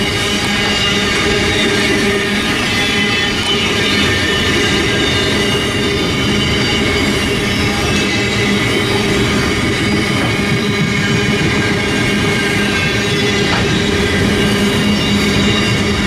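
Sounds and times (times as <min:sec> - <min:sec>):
train wheels rumbling on rails: 0:00.0 - 0:16.0
wheels squealing: 0:00.0 - 0:16.0.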